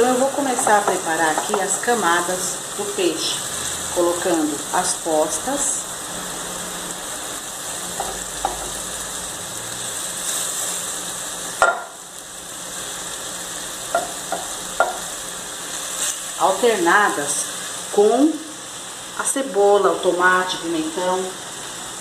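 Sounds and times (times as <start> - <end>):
fish sizzling in a pot: 0.0 - 22.0.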